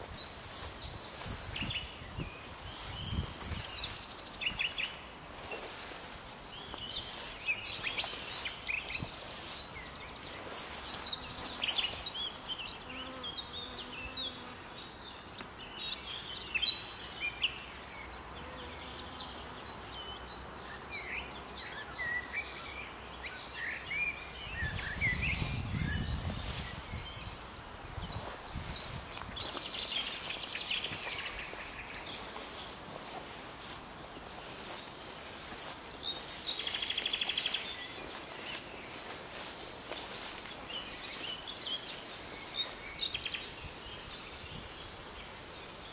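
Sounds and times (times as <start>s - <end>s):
birds singing: 0.0s - 45.9s.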